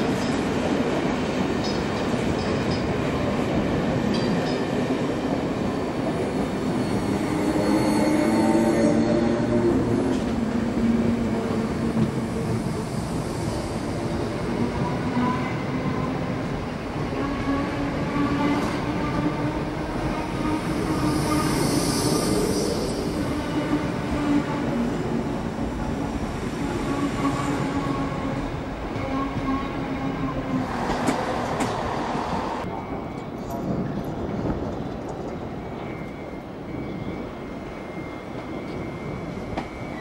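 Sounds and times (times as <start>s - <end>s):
steady train hum: 0.0s - 40.0s.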